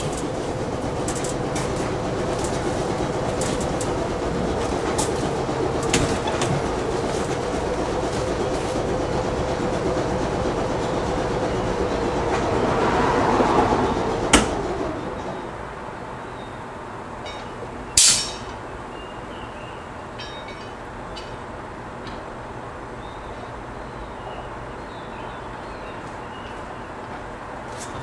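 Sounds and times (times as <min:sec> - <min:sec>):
streetcar humming: 0:00.0 - 0:28.0.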